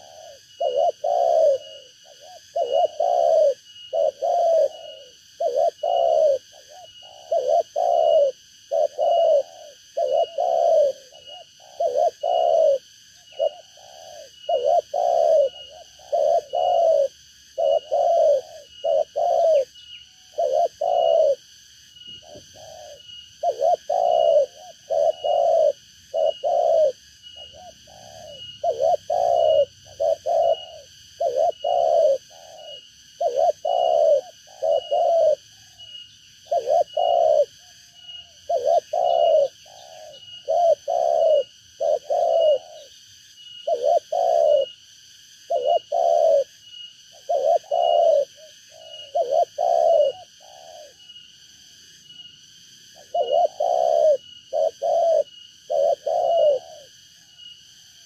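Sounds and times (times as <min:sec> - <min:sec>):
dove cooing: 0:00.0 - 0:44.8, 0:45.4 - 0:51.2, 0:53.0 - 0:57.5.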